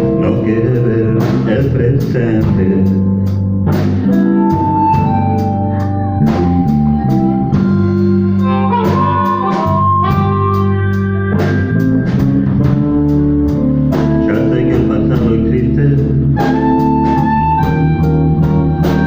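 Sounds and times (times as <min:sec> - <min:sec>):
bass line: 0:00.0 - 0:19.0
drum kit beat: 0:00.0 - 0:19.0
lead instrument melody: 0:02.8 - 0:19.0.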